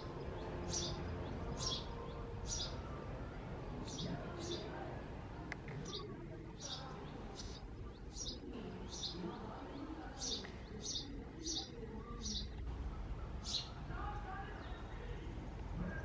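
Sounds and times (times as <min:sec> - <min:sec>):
sparrow chirping: 0:00.0 - 0:15.0.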